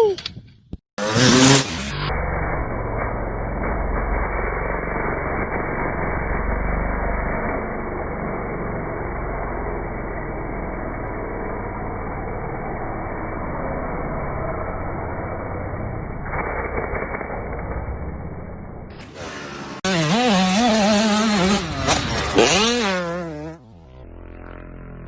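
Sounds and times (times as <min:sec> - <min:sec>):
dirt bike engine running: 0:01.0 - 0:25.0.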